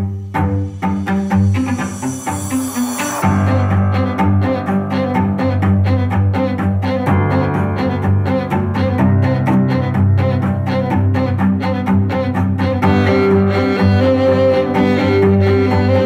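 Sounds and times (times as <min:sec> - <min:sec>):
low bowed strings music: 0:00.0 - 0:16.0.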